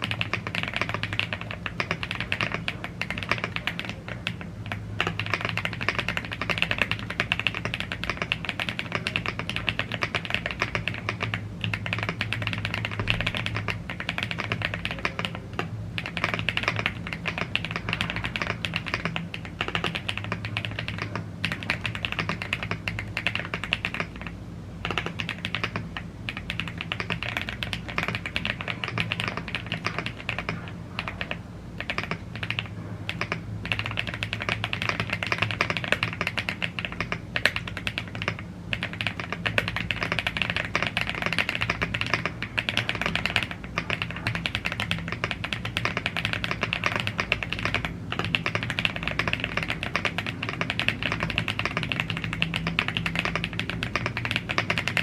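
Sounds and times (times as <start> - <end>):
faint steady low hum: 0.0 - 55.0
fast typing on mechanical keyboard: 0.0 - 55.0.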